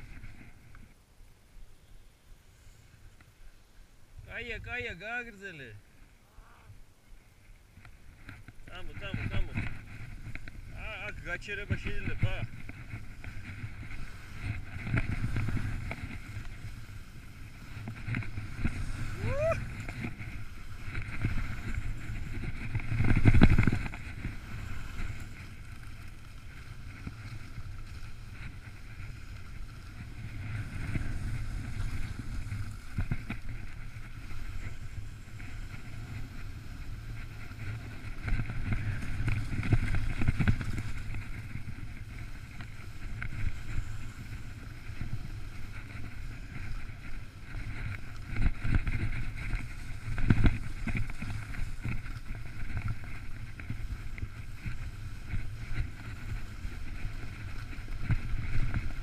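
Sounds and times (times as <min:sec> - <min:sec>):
skis scraping over snow: 0:00.0 - 0:01.0, 0:01.6 - 0:59.0
wind buffeting microphone: 0:08.1 - 0:59.0.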